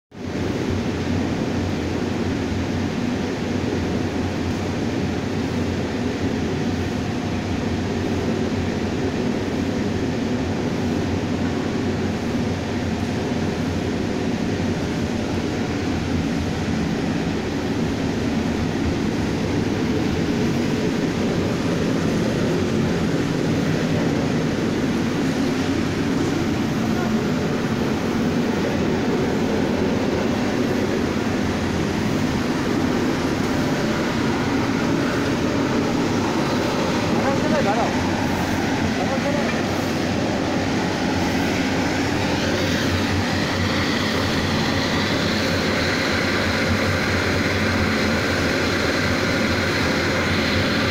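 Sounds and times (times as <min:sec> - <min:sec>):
furnace machine noise: 0:00.2 - 0:50.9.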